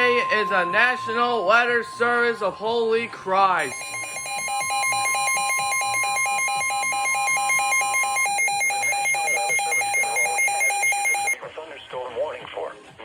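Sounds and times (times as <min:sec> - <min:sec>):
rapid electronic alarm beeping: 0:00.0 - 0:11.4
steady warning tone: 0:00.0 - 0:11.4.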